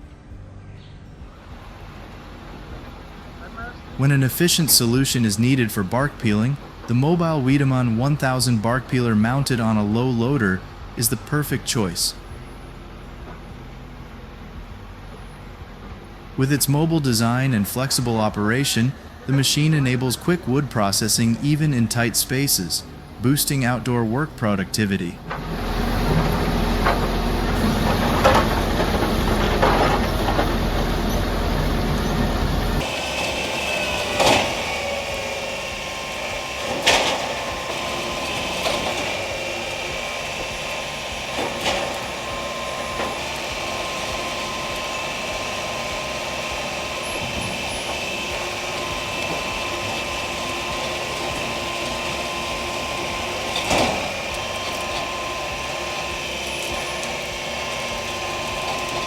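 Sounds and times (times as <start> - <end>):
bark-peeling machine humming: 1.3 - 59.0.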